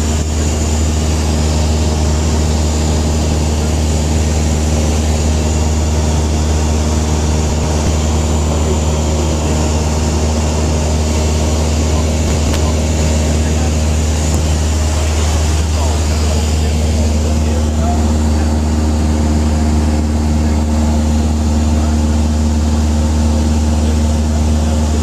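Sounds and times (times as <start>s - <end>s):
airplane engine and propeller drone: 0.0s - 25.0s.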